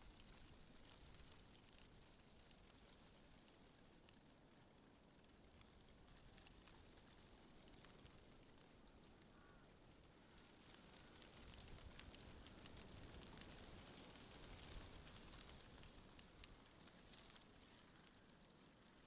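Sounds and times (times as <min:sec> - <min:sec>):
small crackling ticks: 0:00.0 - 0:19.0.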